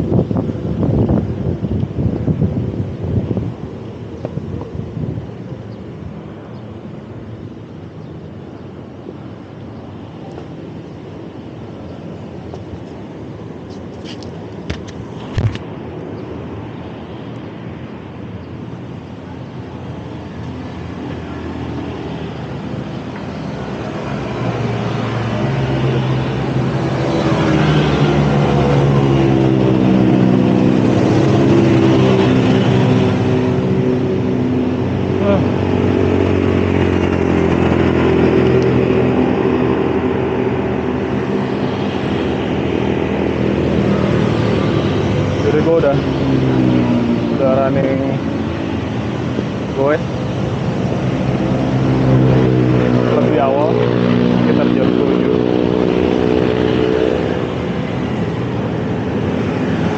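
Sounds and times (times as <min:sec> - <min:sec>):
motorcycle and car engines: 0:00.0 - 0:07.7, 0:08.5 - 0:59.9
city traffic: 0:00.0 - 0:59.9
wind on microphone: 0:00.0 - 0:59.9.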